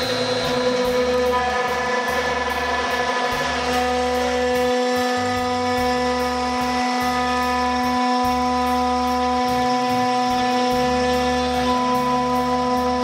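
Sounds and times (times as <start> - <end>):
low machine hum: 0.0 - 13.0
router spindle whine: 0.0 - 13.0.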